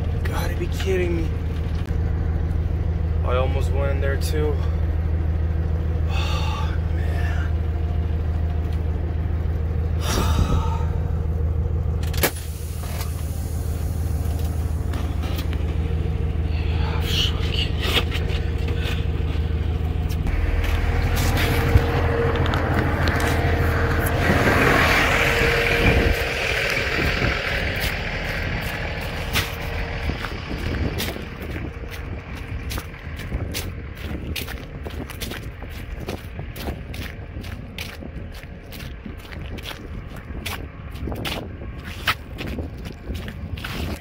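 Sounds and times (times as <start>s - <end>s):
diesel truck engine rumbling: 0.0s - 44.0s.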